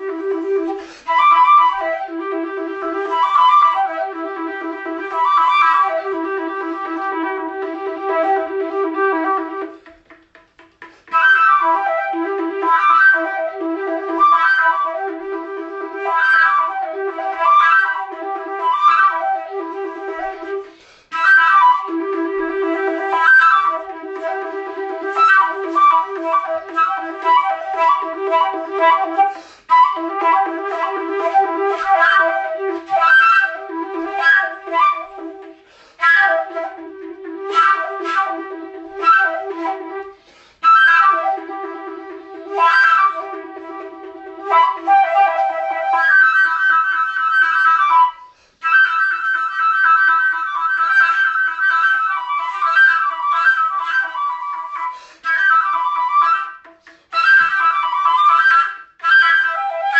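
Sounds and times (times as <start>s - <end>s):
instrumental background music: 0.0s - 59.9s.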